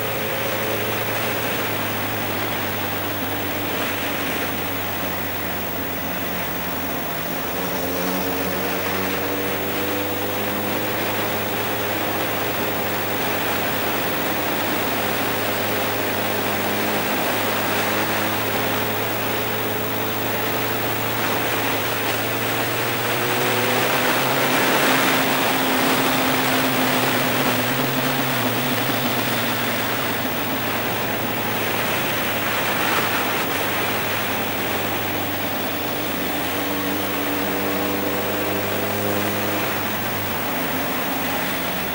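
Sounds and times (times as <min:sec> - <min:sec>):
motorcycle engine running: 0:00.0 - 0:41.9
wind rush on microphone: 0:00.0 - 0:41.9.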